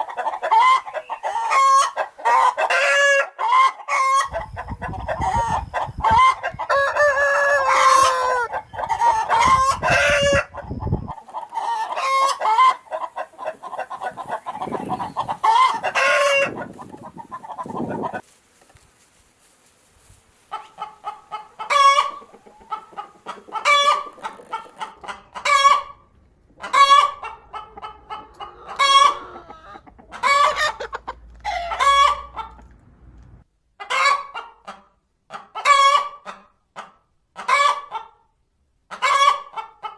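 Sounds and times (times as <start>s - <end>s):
chickens clucking and cackling: 0.0s - 18.2s, 20.4s - 39.9s.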